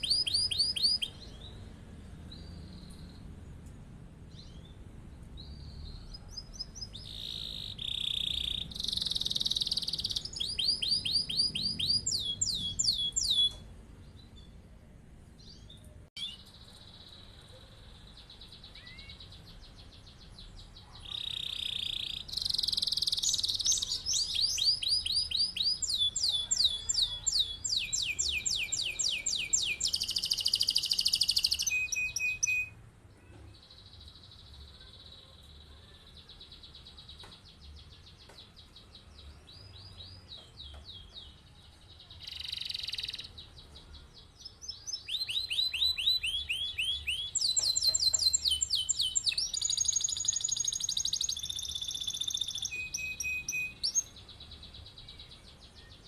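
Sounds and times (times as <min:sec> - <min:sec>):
canary singing trills: 0:00.0 - 0:03.4, 0:04.3 - 0:14.6, 0:15.4 - 0:56.0.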